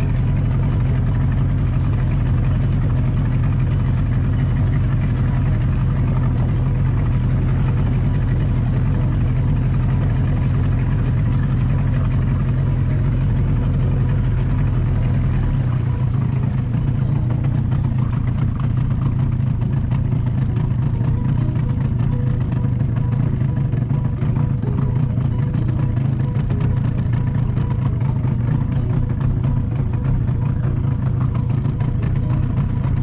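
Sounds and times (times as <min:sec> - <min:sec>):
boat engine droning: 0:00.0 - 0:33.0.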